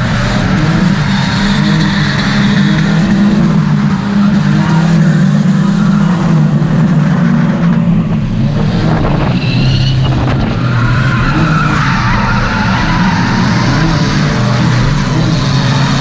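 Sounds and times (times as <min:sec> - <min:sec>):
car engine at high revs: 0:00.0 - 0:16.0
tires squealing: 0:00.0 - 0:16.0.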